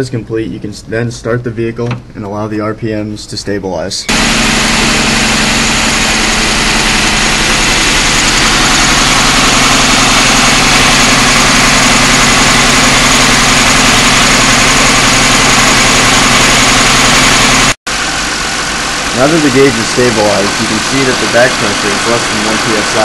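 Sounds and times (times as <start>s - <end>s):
car engine idling: 4.1s - 23.0s.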